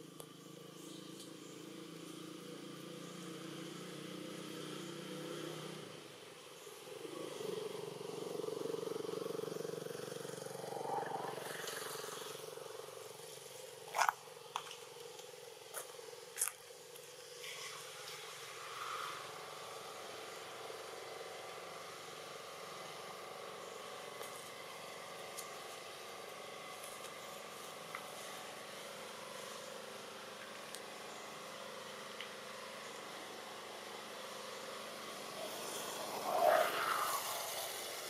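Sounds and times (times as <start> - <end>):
motor vehicle engines running: 0.0 - 38.0.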